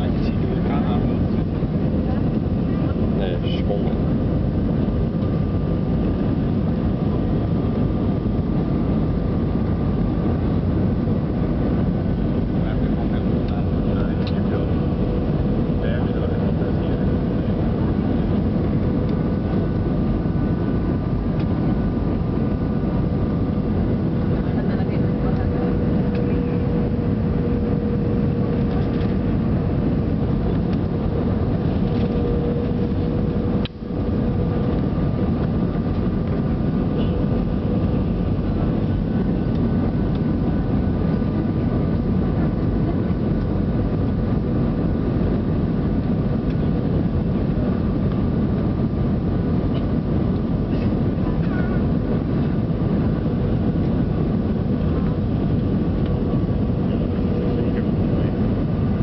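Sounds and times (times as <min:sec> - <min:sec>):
airliner cabin engine rush: 0:00.0 - 0:59.0
steady hum: 0:00.0 - 0:59.0.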